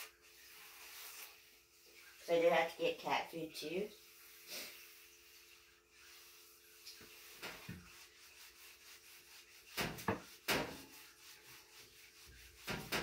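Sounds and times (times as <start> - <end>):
rubbing and scraping on floor: 0.0 - 3.0, 3.7 - 13.0.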